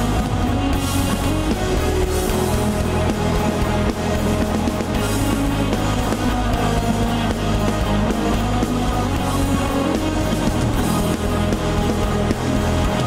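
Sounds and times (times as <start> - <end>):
bass guitar: 0.0 - 13.0
distorted electric guitars: 0.0 - 13.0
drums: 0.0 - 13.0.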